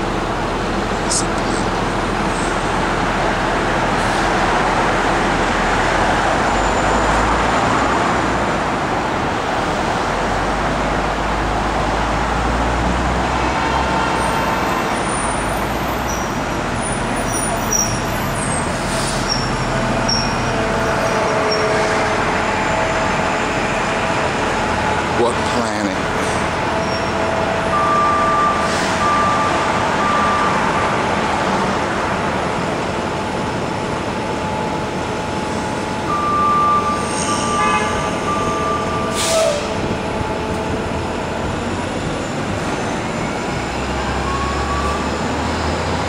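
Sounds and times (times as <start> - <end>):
city traffic: 0.0 - 46.0.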